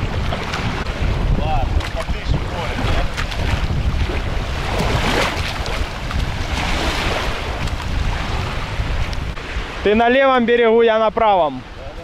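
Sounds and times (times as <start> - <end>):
wind buffeting microphone: 0.0 - 10.0
small waves washing on shore: 0.0 - 12.0.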